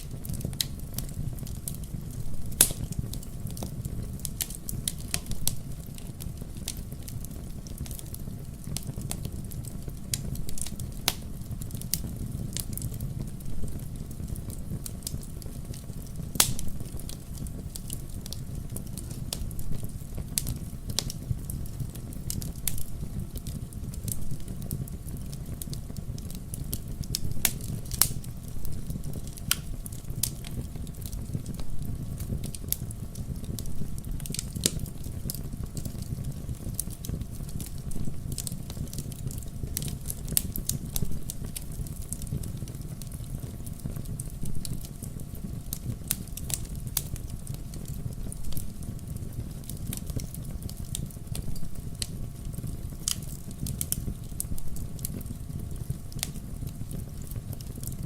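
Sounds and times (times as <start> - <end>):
wood logs burning and popping: 0.0 - 58.0.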